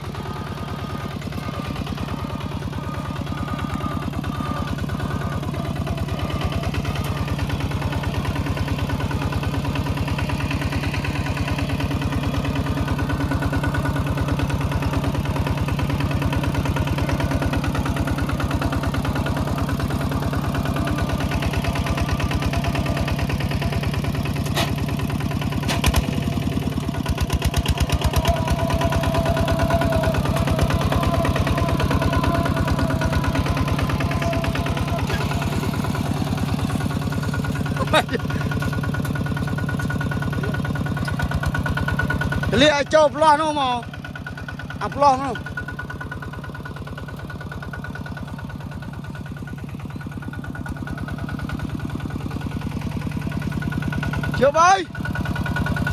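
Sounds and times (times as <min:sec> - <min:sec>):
tractor engine chugging: 0:00.0 - 0:55.9.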